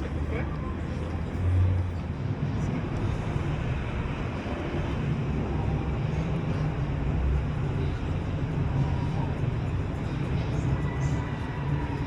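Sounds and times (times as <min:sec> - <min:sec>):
city background noise: 0:00.0 - 0:12.0
low rumble of vehicles: 0:00.0 - 0:12.0.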